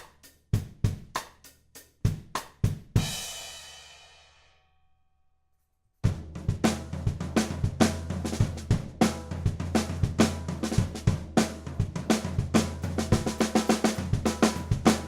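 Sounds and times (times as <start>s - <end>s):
drum kit groove: 0.0s - 4.1s, 6.1s - 15.0s.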